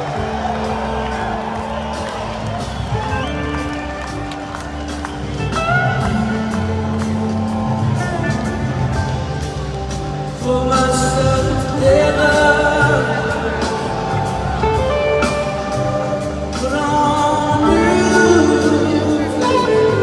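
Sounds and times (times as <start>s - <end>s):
live blues-rock band: 0.0s - 20.0s.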